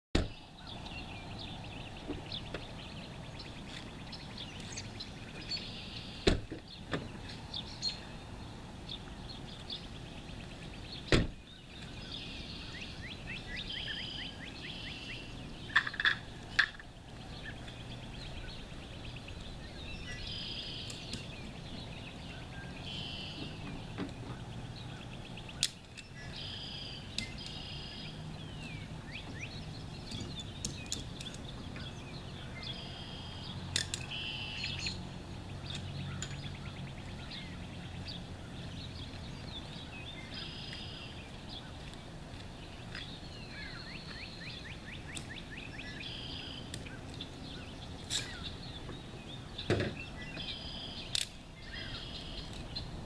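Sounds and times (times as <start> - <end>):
birds singing and chirping: 0.2 - 53.0.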